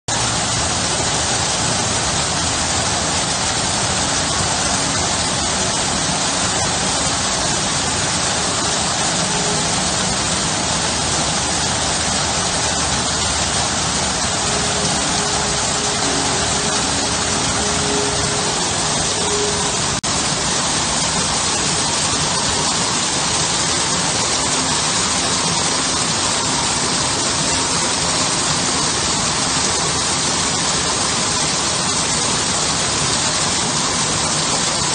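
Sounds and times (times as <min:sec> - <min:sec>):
waterfall pouring into pool: 0:00.1 - 0:34.9.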